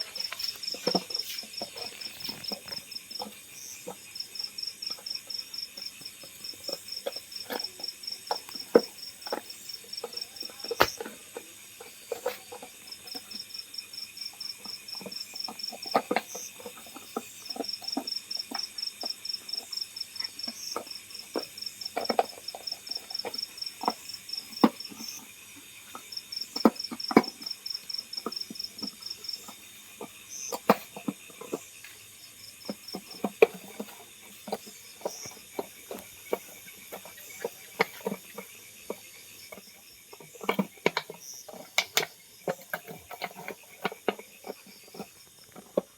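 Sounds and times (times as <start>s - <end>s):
insect chirping: 0.0s - 45.9s.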